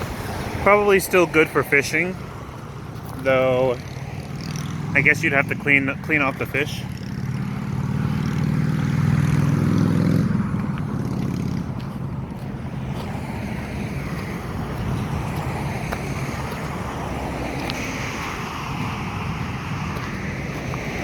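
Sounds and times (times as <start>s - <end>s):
wind: 0.0s - 21.0s
vehicle engine running: 0.9s - 21.0s.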